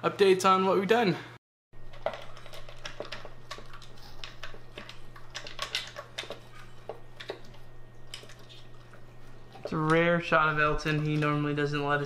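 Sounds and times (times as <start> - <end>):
dog eating from plastic bowl: 1.8 - 12.0.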